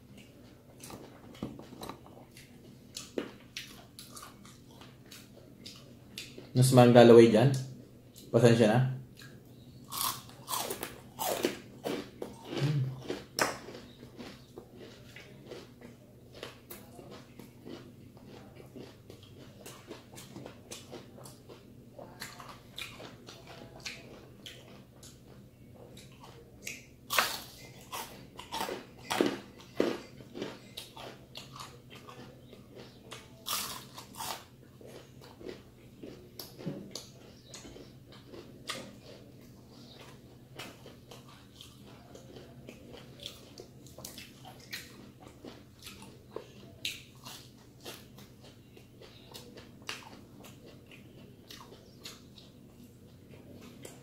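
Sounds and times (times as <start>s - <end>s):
wet chewing: 0.1s - 6.5s, 9.2s - 54.0s.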